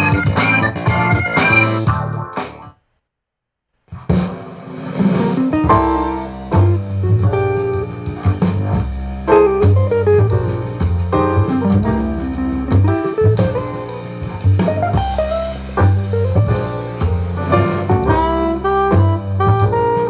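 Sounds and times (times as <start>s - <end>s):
jazz music from speaker: 0.0s - 2.7s, 5.0s - 20.0s.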